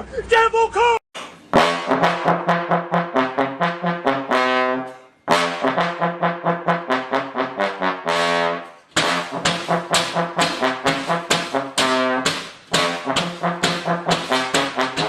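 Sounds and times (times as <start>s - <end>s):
trombone staccato notes: 1.5s - 15.0s.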